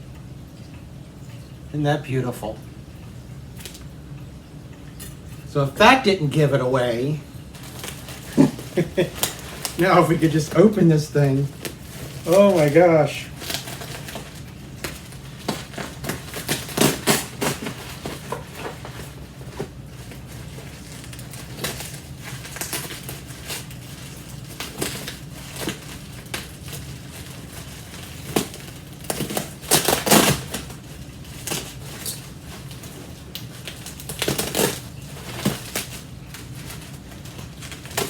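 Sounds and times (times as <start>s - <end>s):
packing material crinkling: 5.8s - 38.0s.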